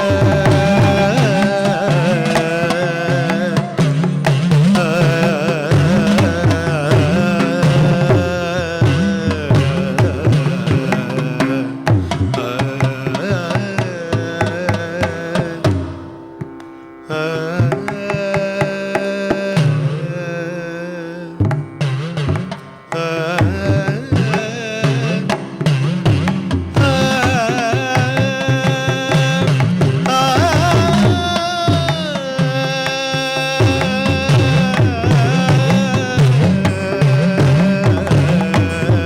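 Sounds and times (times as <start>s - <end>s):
hand drum strokes: 0.0s - 16.9s, 21.4s - 39.0s.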